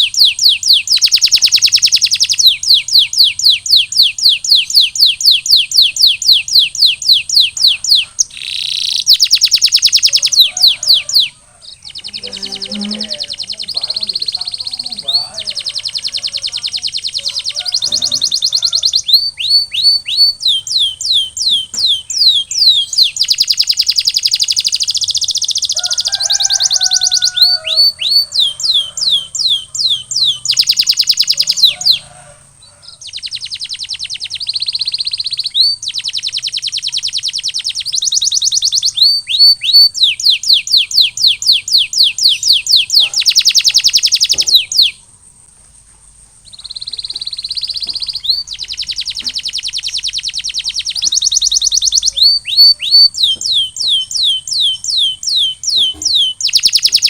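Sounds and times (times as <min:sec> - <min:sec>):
canary singing: 0:00.0 - 0:45.1, 0:46.4 - 0:57.0.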